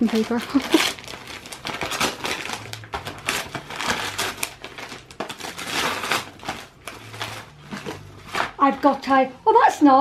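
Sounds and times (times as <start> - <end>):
wrapping paper tearing and crumpling: 0.0 - 9.1.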